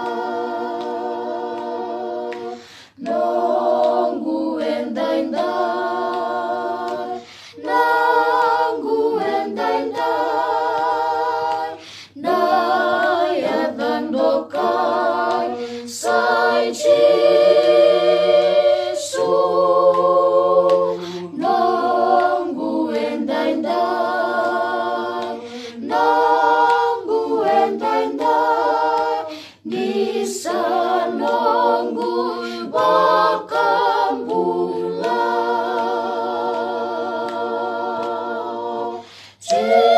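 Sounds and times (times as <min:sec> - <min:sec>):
group singing a cappella: 0:00.0 - 0:39.9.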